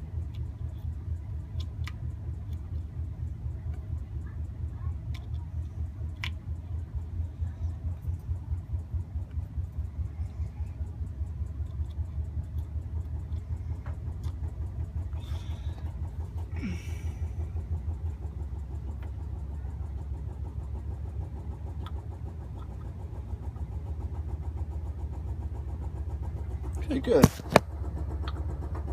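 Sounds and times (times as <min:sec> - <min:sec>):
pulsing machine hum: 0:00.0 - 0:28.9.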